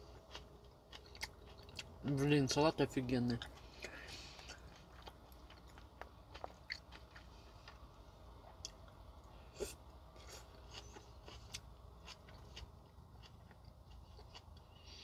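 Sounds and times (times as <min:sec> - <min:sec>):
person chewing salad: 0:00.0 - 0:02.3, 0:03.2 - 0:15.0.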